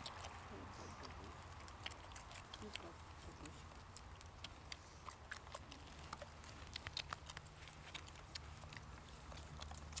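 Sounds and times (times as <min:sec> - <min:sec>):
low steady hum: 0:00.0 - 0:10.0
puppies' paws pattering: 0:00.0 - 0:10.0.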